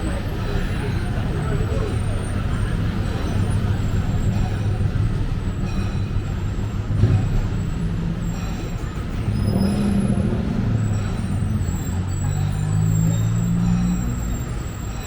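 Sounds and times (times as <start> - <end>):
road noise: 0.0 - 15.0
vehicle engines running: 0.0 - 15.0.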